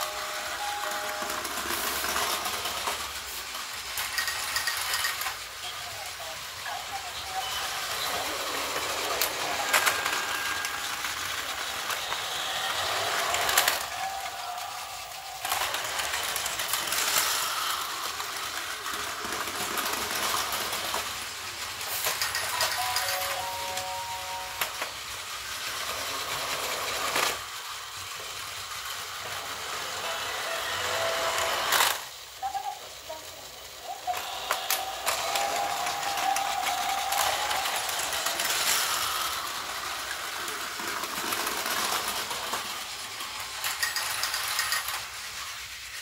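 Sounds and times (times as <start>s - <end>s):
toy train motor whirring: 0.0s - 46.0s.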